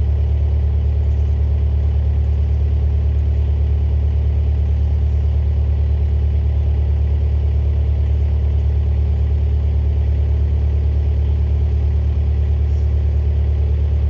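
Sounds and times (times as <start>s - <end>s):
skid steer engine droning: 0.0s - 14.0s.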